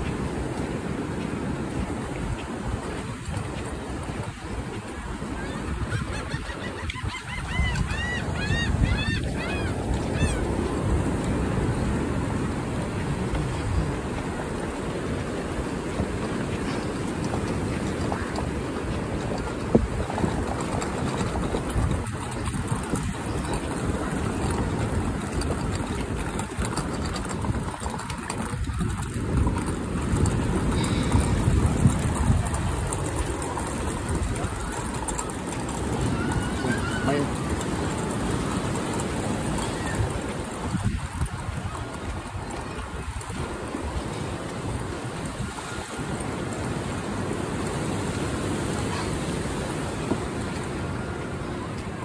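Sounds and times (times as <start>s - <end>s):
ocean surf: 0.0s - 52.0s
wind buffeting microphone: 0.0s - 52.0s.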